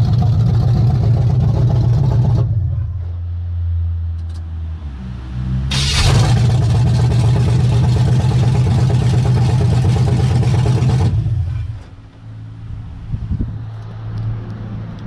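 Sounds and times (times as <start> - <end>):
unmuffled engine revving and idling: 0.0 - 15.0.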